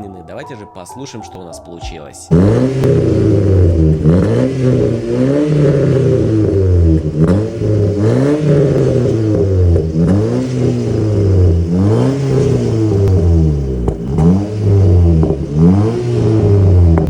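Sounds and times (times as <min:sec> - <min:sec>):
car engine revving in blips: 0:02.3 - 0:17.0.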